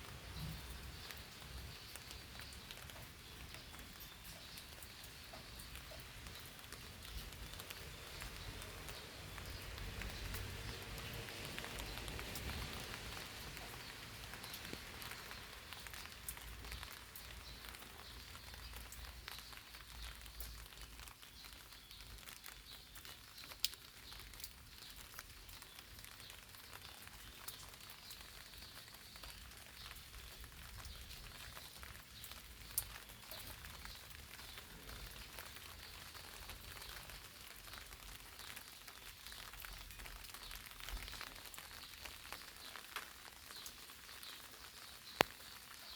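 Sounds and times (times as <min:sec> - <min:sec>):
rain patter on leaves: 0:00.0 - 0:45.9.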